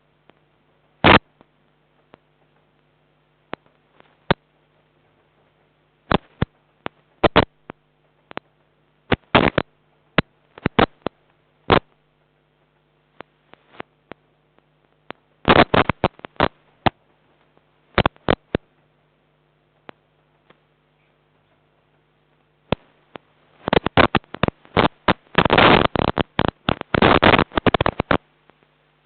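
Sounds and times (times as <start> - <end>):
low electrical hum: 0.0 - 29.0
sharp clicks and ticks: 0.2 - 18.9, 19.7 - 20.7, 21.3 - 28.7.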